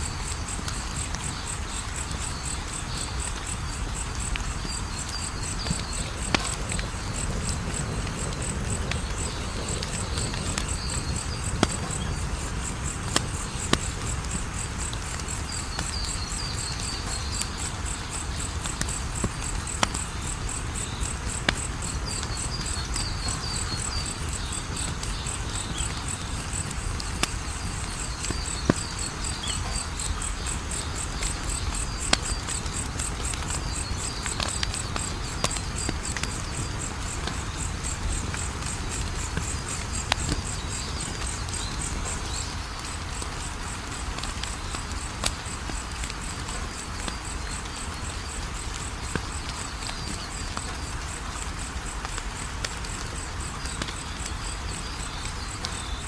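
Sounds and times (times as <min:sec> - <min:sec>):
cricket chirping: 0:00.0 - 0:56.0
wood fire crackling: 0:00.0 - 0:56.0.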